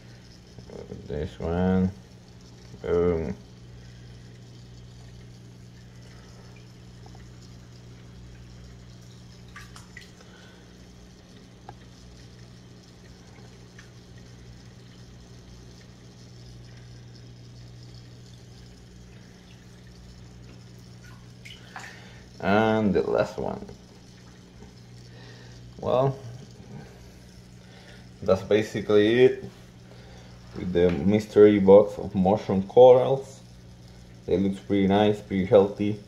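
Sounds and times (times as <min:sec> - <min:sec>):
pump humming: 0:00.0 - 0:36.0
water trickling: 0:00.0 - 0:36.0.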